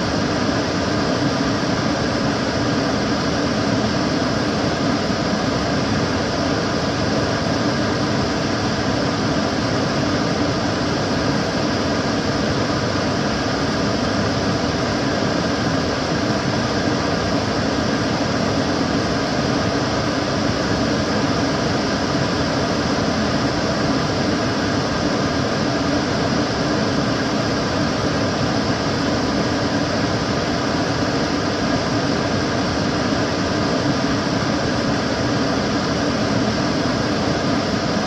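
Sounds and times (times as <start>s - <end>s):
extractor fan running: 0.0s - 38.0s.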